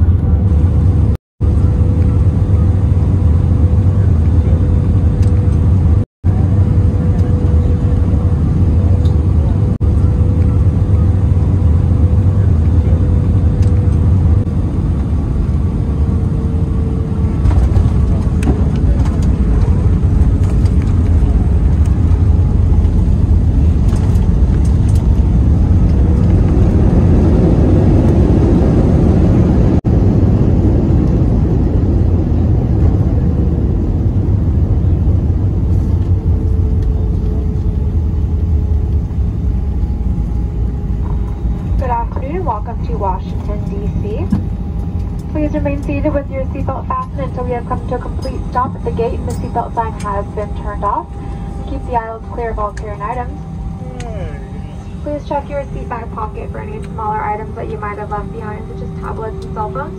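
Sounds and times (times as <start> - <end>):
faint jet engine whine: 0.0 - 59.9
wheels rumbling on runway: 0.0 - 59.9.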